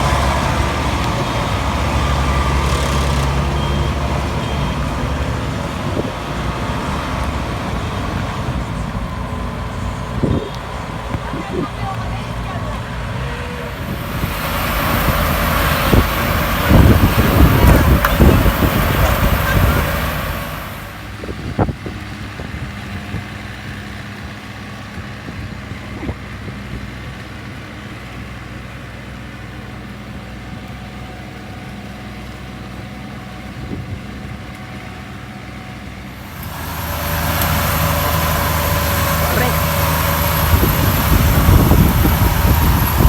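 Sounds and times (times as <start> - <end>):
combine harvester engine running: 0.0 - 43.0.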